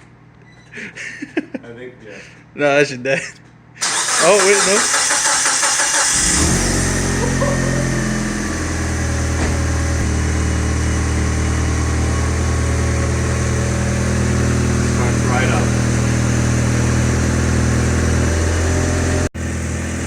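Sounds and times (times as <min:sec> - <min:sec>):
car engine starting and idling: 0:03.8 - 0:20.0.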